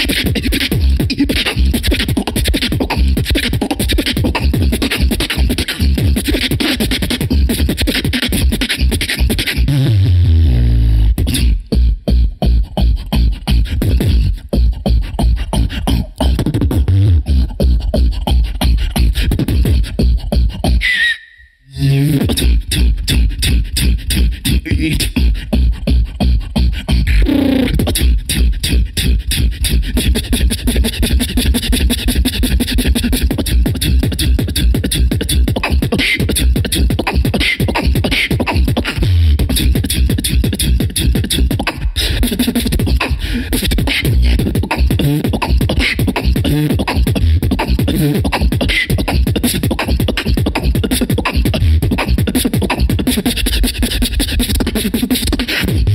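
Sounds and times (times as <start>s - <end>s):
person beatboxing: 0.0s - 21.0s, 21.6s - 55.9s.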